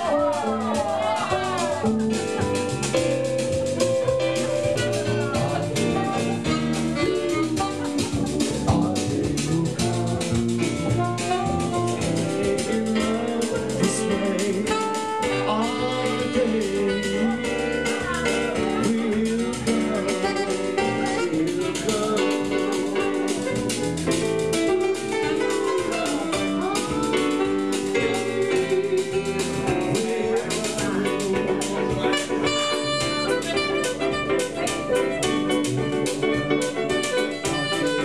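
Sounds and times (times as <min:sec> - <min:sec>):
instrumental jazz music: 0:00.0 - 0:38.0.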